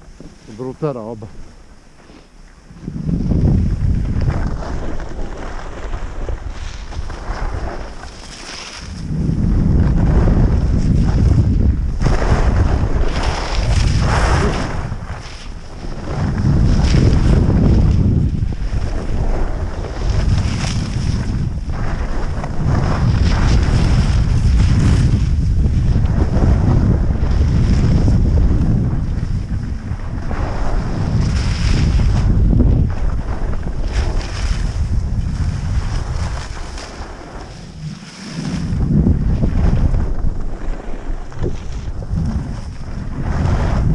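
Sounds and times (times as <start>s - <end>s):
skis scraping on snow: 0.0s - 43.9s
wind buffeting microphone: 0.0s - 43.9s.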